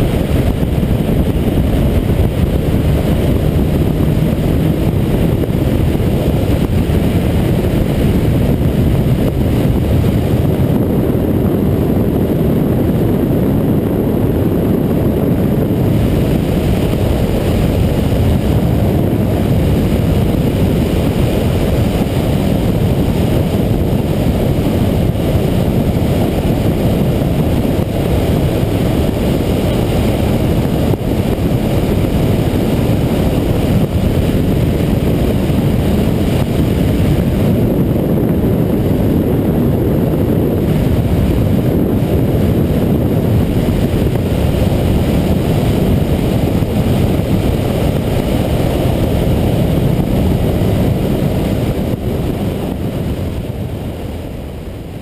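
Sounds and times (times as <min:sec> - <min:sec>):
motorcycle engine running at speed: 0:00.0 - 0:55.0
wind rushing on microphone: 0:00.0 - 0:55.0.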